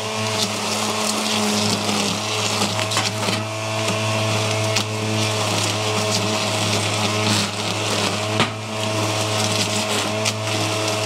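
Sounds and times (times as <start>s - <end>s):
string trimmer cutting grass: 0.0s - 11.0s.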